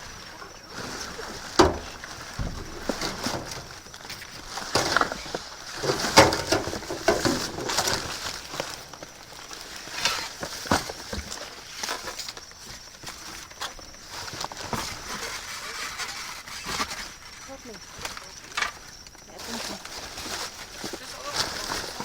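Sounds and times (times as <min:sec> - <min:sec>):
bags rustling and crinkling: 0:00.0 - 0:22.0.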